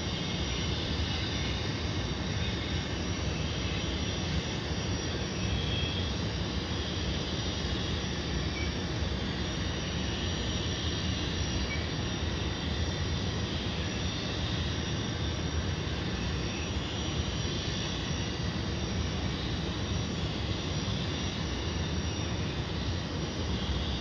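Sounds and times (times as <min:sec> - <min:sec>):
model train rushing with whine: 0:00.0 - 0:24.0.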